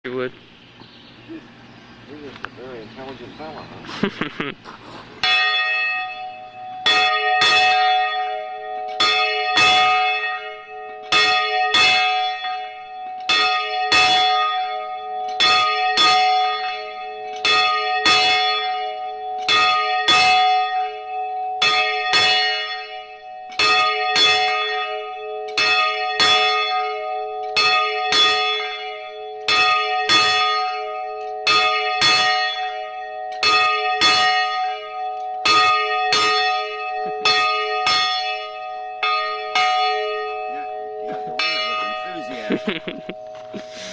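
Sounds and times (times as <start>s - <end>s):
large bell ringing: 5.2s - 43.9s.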